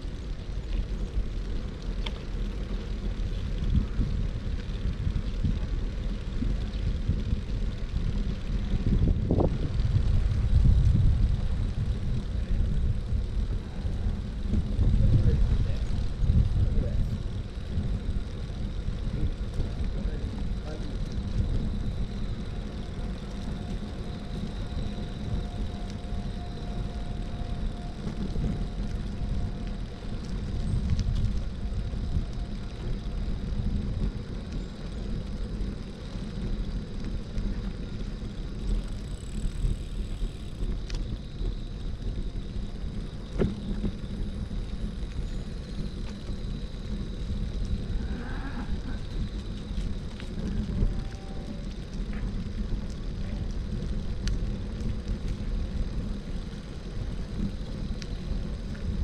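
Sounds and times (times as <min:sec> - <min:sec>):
faint high whine: 0:00.0 - 0:59.0
traffic rumble: 0:00.0 - 0:59.0.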